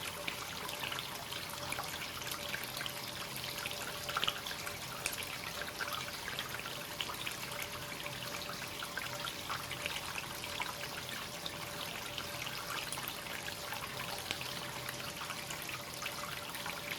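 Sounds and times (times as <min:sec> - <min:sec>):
water trickling into a bath: 0:00.0 - 0:16.9.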